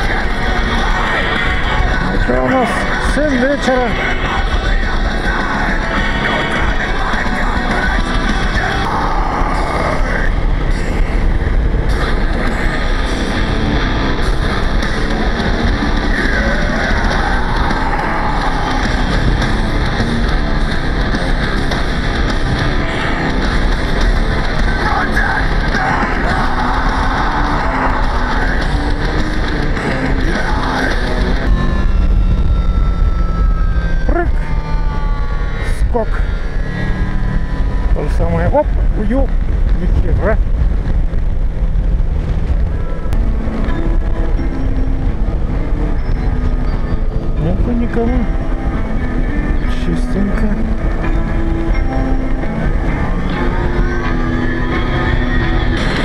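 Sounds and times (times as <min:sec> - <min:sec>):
heavy rock music: 0:00.0 - 0:56.0
motorcycle engine running: 0:00.0 - 0:56.0
slowly falling tones: 0:00.0 - 0:56.0
wind and road rush: 0:00.0 - 0:56.0.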